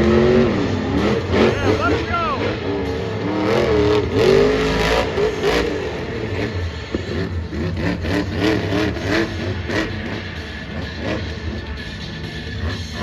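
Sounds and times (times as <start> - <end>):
truck engine revving in blips: 2.4 - 13.0.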